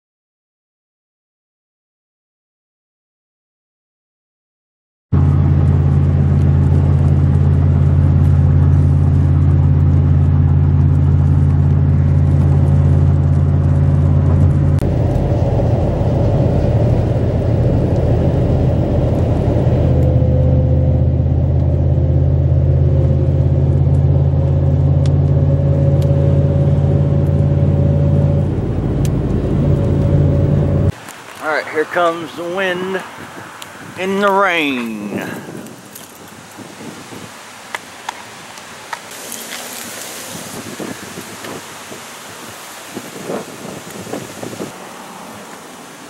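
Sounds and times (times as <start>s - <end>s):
car cabin road rumble: 5.2s - 46.0s.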